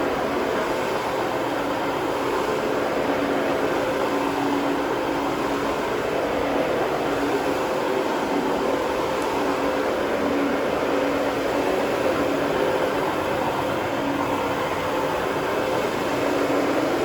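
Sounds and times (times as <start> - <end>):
motor running steadily: 0.0 - 17.0.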